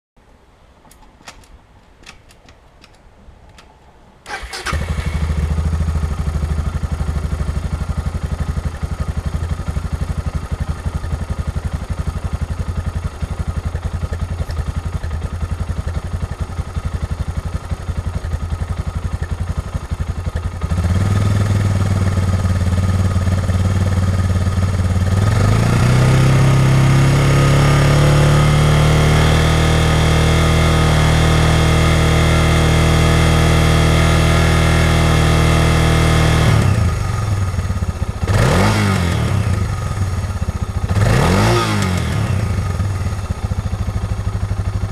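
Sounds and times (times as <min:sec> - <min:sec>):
motorcycle engine starting and revving: 0:00.9 - 0:44.9.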